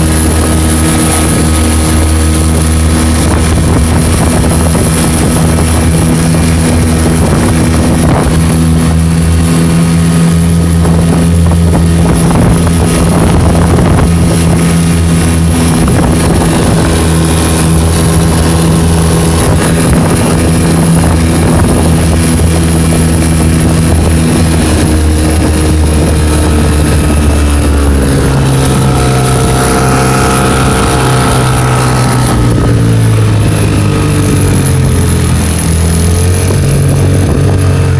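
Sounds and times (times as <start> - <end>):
outboard motor running: 0.0 - 37.9.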